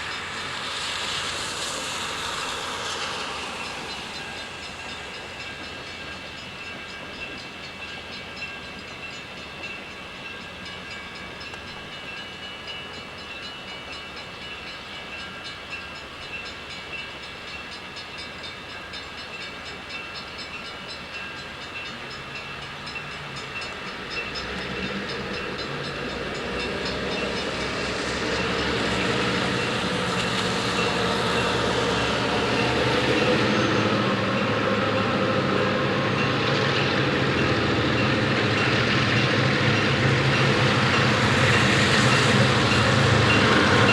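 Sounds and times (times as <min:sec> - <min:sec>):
diesel locomotive engine: 0:00.0 - 0:43.9
train on rails: 0:00.0 - 0:43.9.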